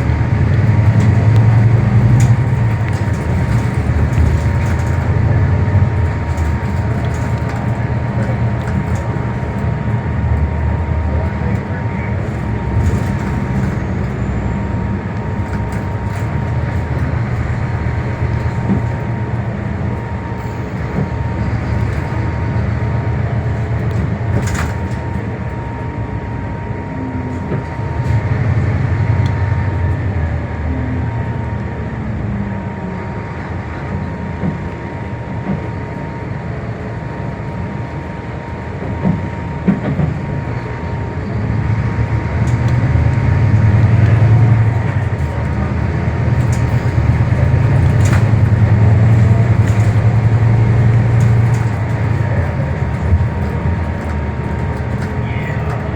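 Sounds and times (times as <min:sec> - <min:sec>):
bus engine running: 0:00.0 - 0:55.9
road noise: 0:00.0 - 0:55.9.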